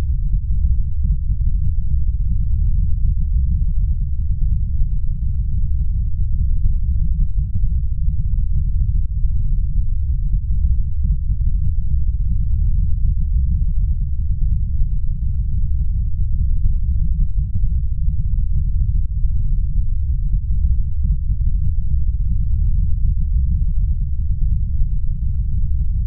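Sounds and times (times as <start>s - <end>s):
low roaring rumble: 0.0s - 26.0s.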